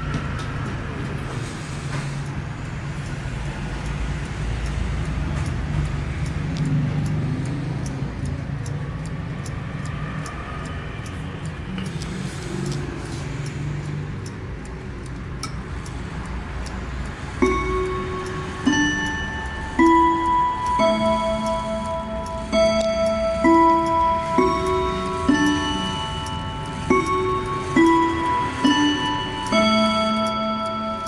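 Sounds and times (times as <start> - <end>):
wall clock ticking: 0.0 - 31.0.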